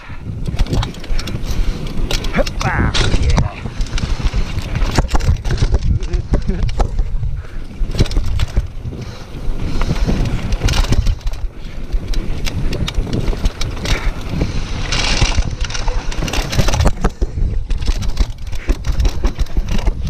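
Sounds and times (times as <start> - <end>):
bike rattling and knocking: 0.0 - 20.0
wind rushing across microphone: 0.0 - 20.0
tyres rumbling over dirt: 0.3 - 20.0.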